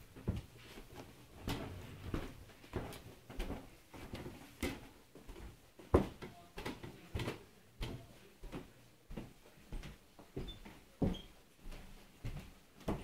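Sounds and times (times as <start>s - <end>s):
floor squeaking under footsteps: 0.0s - 13.0s.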